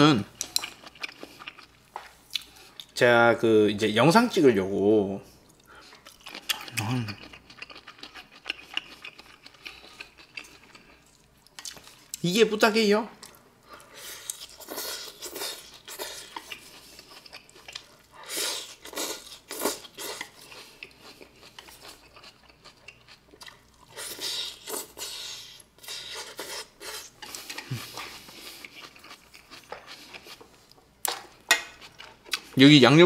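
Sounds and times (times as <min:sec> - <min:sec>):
chewing and crunching food: 0:00.4 - 0:03.0, 0:05.4 - 0:12.2, 0:13.2 - 0:32.6.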